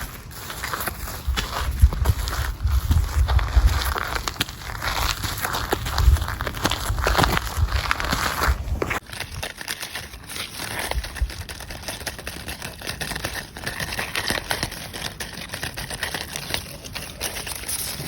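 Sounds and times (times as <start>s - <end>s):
dense crackling and rustling: 0.0s - 18.0s.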